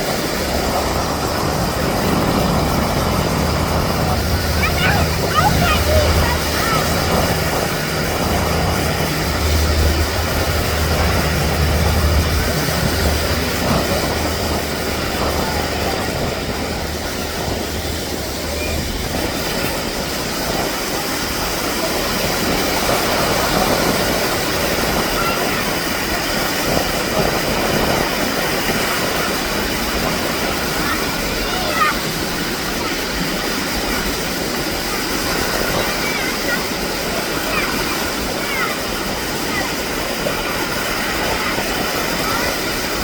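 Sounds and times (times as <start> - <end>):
steady rushing noise: 0.0 - 43.0
turboprop engines droning: 0.0 - 43.0.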